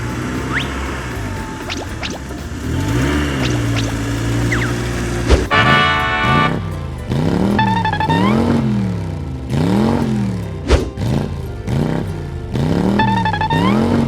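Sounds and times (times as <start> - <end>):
car engine revving: 0.0 - 14.0
music: 0.0 - 14.0.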